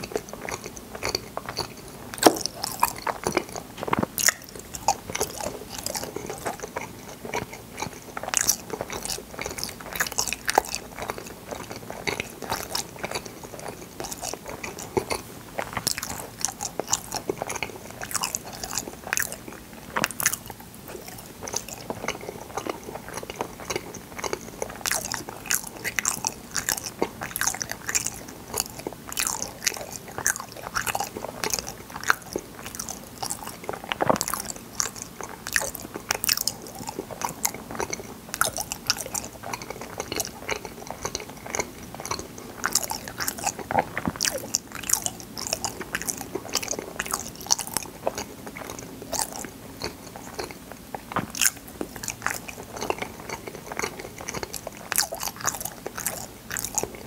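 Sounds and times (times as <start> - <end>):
chewing sticky jelly: 0.0 - 57.0.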